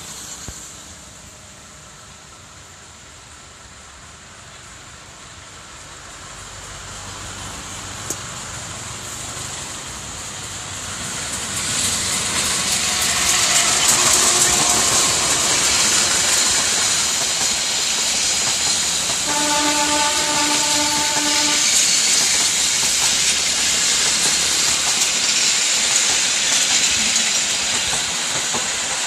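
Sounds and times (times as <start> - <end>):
high hiss: 0.0 - 29.0
train wheels rushing on rails: 0.0 - 29.0
locomotive engine passing: 5.6 - 29.0.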